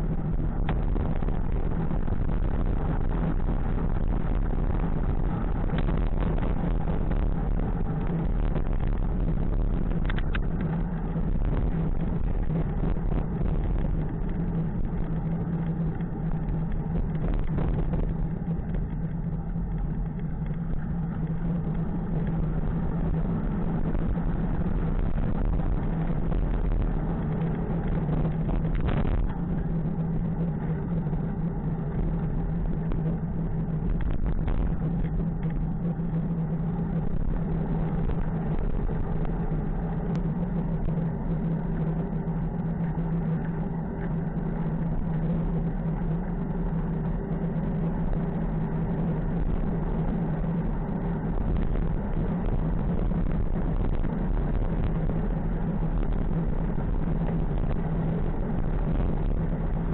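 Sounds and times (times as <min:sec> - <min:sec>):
road and wind noise: 0:00.0 - 0:59.9
vehicle engine droning: 0:00.0 - 0:59.9.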